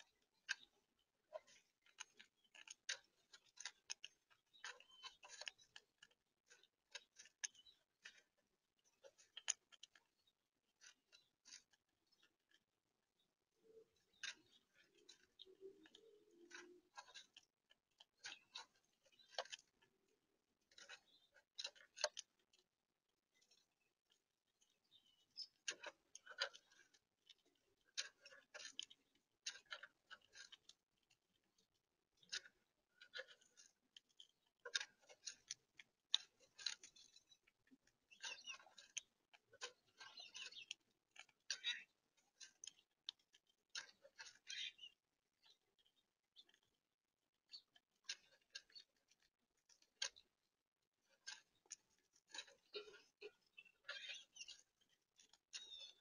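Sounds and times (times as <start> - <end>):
squirrel gnawing and crunching: 0.0 - 56.0.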